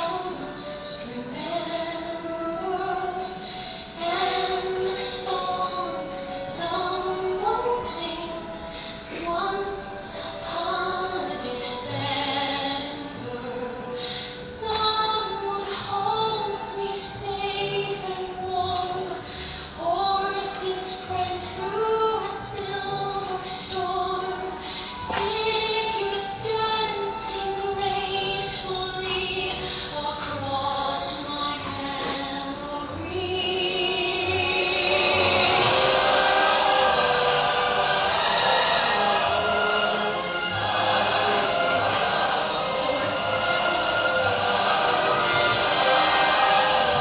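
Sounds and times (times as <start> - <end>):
instrumental accompaniment: 0.0 - 47.0
woman singing: 0.0 - 47.0.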